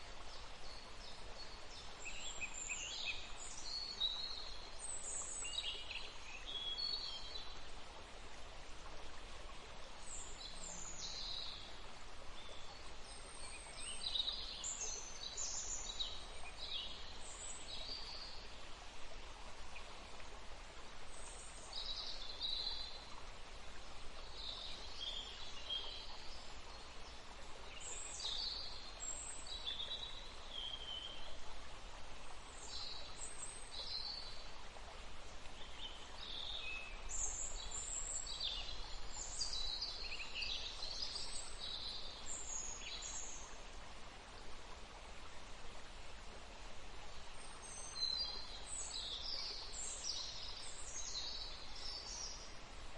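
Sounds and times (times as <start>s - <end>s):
flowing water: 0.0s - 52.9s.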